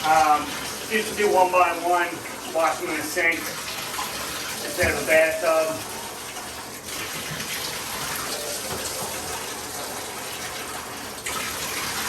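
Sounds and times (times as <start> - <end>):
water running from bathtub tap: 0.0 - 12.0.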